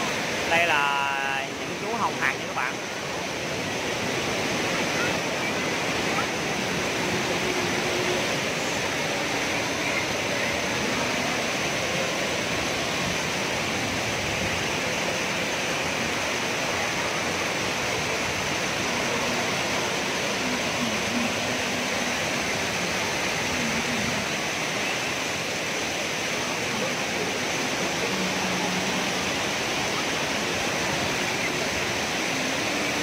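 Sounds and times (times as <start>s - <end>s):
waterfall pouring over rocks: 0.0s - 33.0s.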